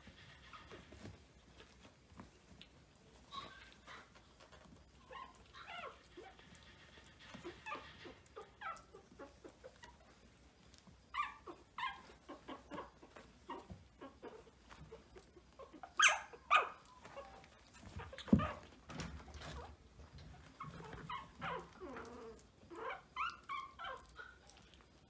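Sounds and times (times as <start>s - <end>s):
puppies whimpering and squeaking: 0.0s - 25.0s.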